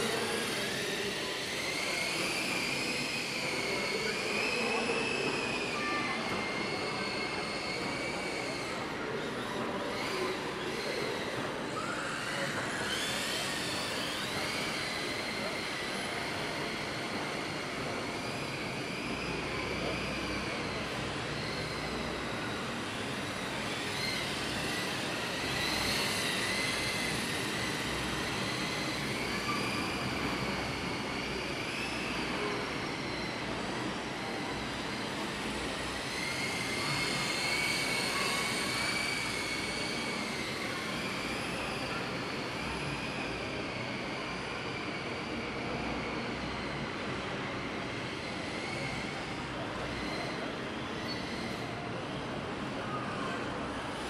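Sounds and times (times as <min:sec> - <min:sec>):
model plane motors whining: 0:00.0 - 0:54.0.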